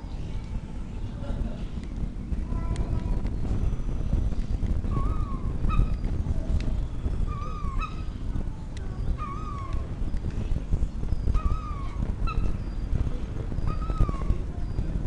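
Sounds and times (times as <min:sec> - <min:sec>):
wind rumble on microphone: 0:00.0 - 0:15.0
gulls calling: 0:02.2 - 0:15.0.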